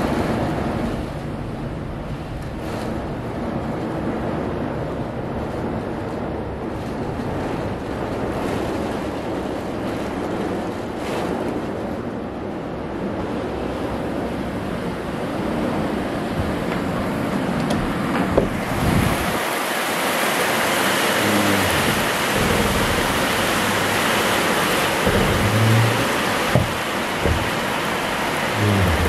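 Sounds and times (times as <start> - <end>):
heavy rain and wind: 0.0 - 29.0.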